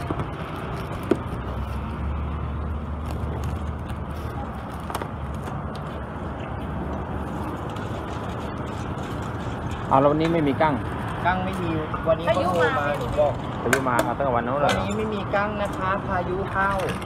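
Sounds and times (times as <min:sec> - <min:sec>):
road traffic: 0:00.0 - 0:17.0
vehicle low rumble: 0:00.0 - 0:17.0.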